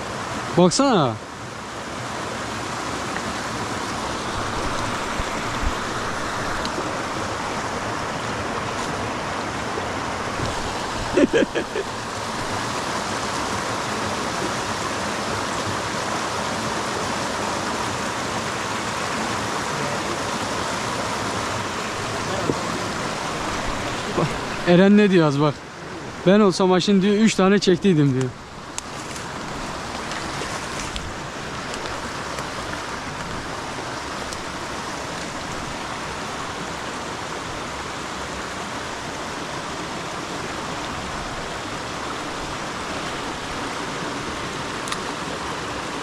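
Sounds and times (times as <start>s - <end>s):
creek water running: 0.0s - 46.0s.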